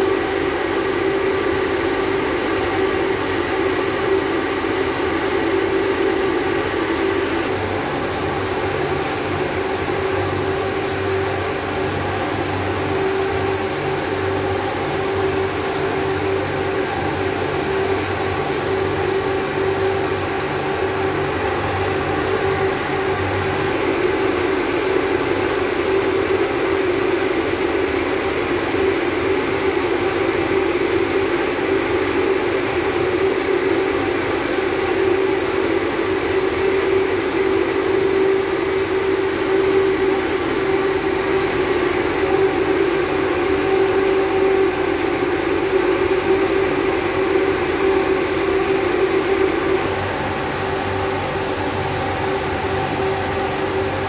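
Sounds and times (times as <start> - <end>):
spray gun hissing: 0.0 - 20.3, 23.7 - 54.0
air supply motor hum: 0.0 - 54.0.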